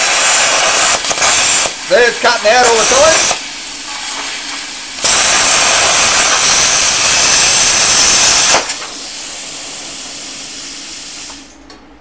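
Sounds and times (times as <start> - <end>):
plasma cutter arc hissing: 0.0 - 11.6.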